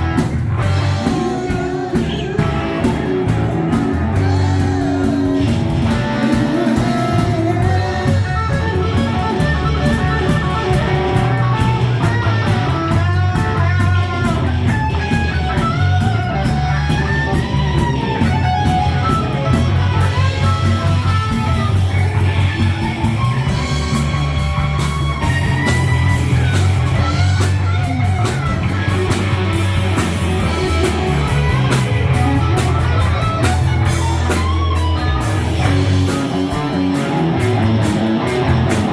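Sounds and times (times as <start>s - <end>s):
driving bass: 0.0s - 38.9s
lead electric guitar: 0.0s - 38.9s.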